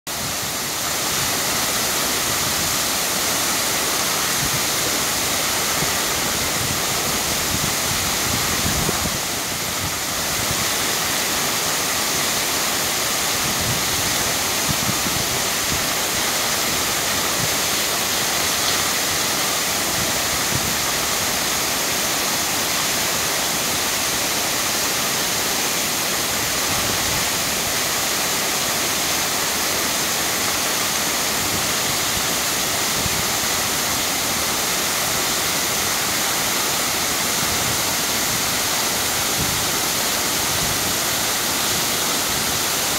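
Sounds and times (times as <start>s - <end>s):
waterfall pouring onto rocks: 0.1s - 42.9s.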